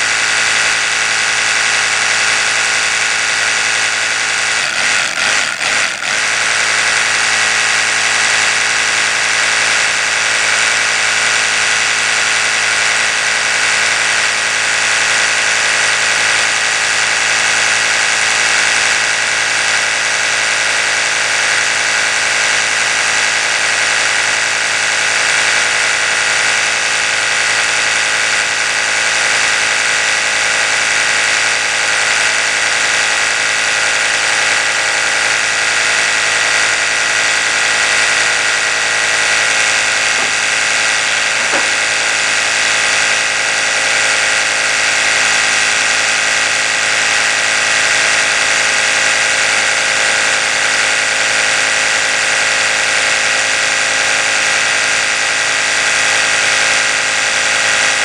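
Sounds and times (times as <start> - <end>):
electric toothbrush buzzing: 0.0 - 58.0.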